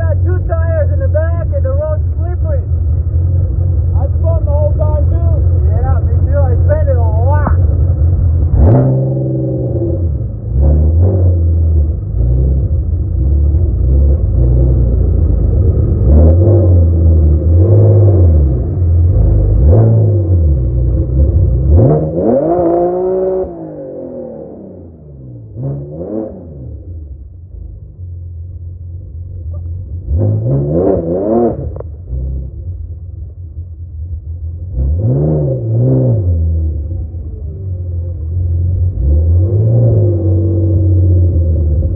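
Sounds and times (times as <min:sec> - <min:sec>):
diesel truck engine revving: 0:00.0 - 0:27.7, 0:29.4 - 0:32.8, 0:34.6 - 0:41.9.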